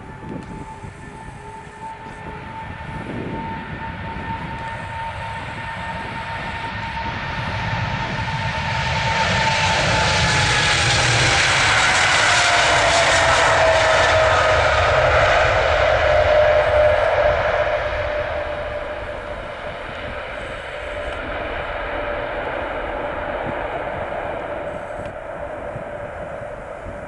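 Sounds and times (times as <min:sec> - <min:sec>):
jet engines whining and roaring: 0:00.0 - 0:27.0.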